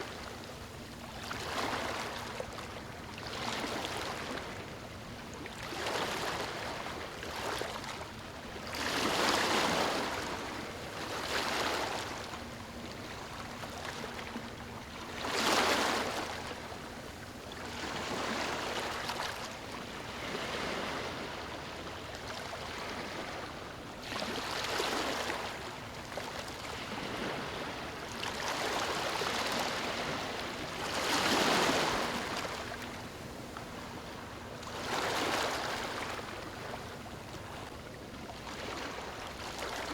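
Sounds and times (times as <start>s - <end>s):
small waves lapping on beach: 0.0s - 39.9s.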